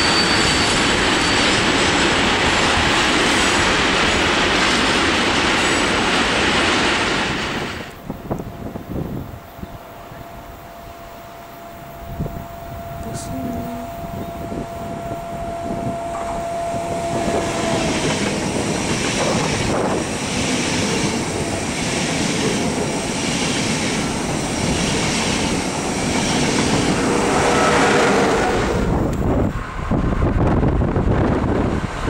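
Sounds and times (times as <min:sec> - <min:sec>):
high-speed train passing: 0:00.0 - 0:32.0
wheels rushing on rail: 0:00.0 - 0:32.0.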